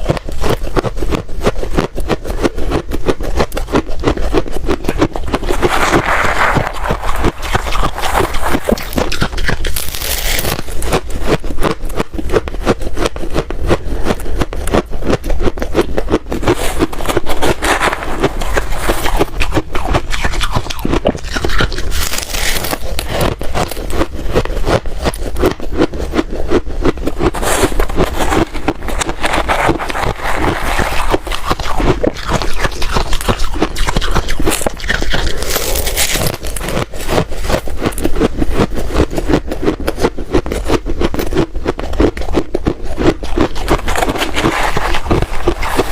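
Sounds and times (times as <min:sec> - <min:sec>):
ice being chewed: 0:00.0 - 0:45.9.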